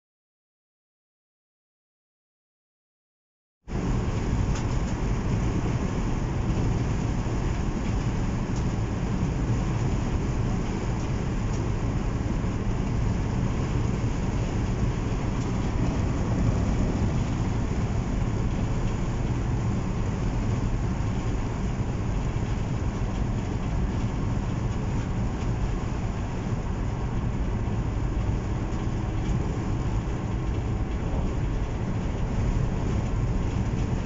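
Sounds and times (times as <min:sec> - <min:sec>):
vehicle engine and road noise: 0:03.7 - 0:34.0.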